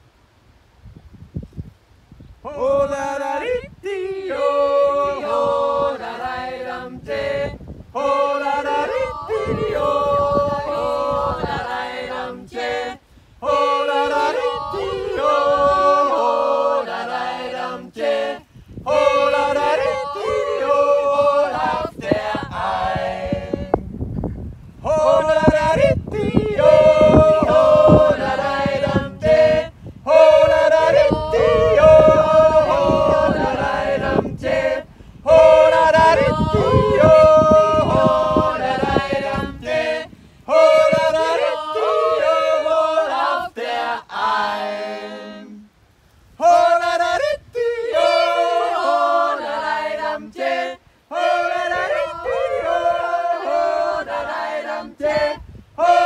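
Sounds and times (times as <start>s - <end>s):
group yodeling a cappella: 2.4s - 23.9s, 24.8s - 45.7s, 46.4s - 56.0s.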